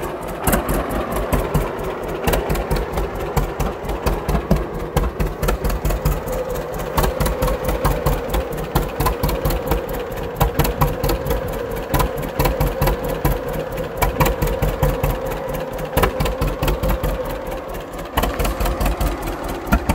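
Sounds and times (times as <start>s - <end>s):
tractor engine idling: 0.0s - 19.9s.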